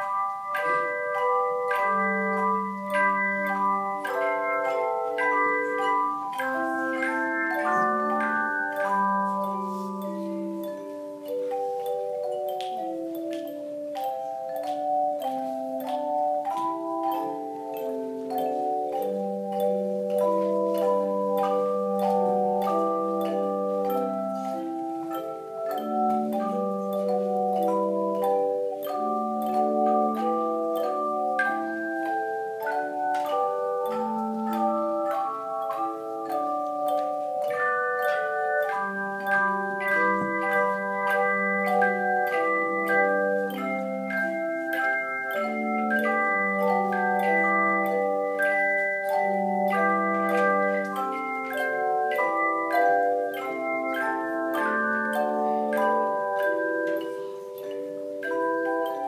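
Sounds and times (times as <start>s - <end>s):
handheld tone chimes playing: 0.0s - 59.0s.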